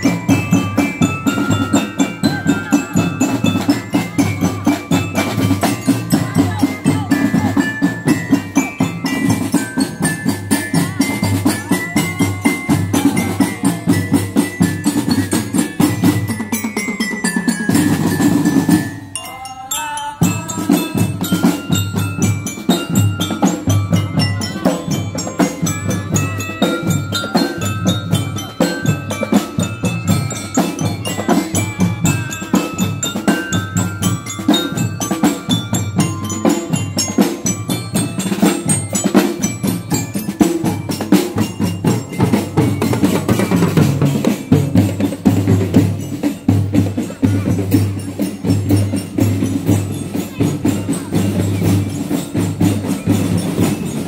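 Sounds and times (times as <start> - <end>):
bass and marching drums: 0.0 - 19.2, 20.2 - 54.0
mallet instruments playing melody: 0.0 - 54.0.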